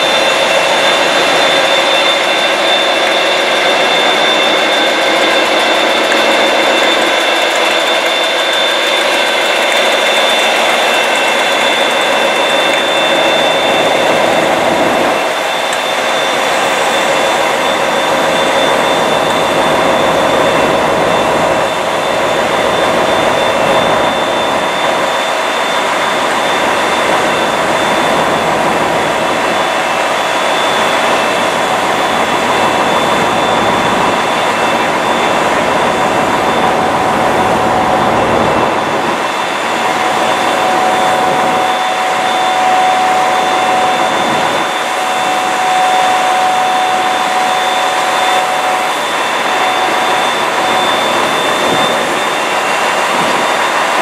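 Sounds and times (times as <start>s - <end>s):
diesel locomotive engine running: 0.0s - 54.0s
turbocharger whine: 0.0s - 54.0s.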